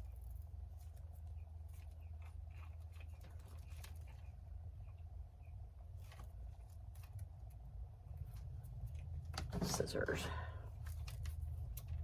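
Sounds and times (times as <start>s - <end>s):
small clicks and rustles: 0.0s - 5.0s, 6.0s - 9.7s, 10.7s - 12.0s
steady low hum: 0.0s - 12.0s.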